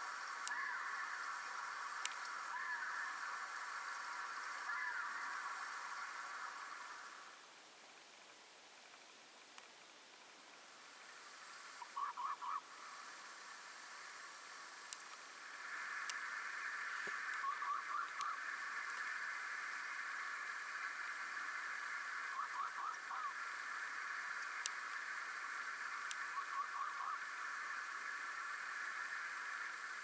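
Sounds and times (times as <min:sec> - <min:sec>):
frog chorus: 0:00.0 - 0:07.5, 0:11.0 - 0:30.0.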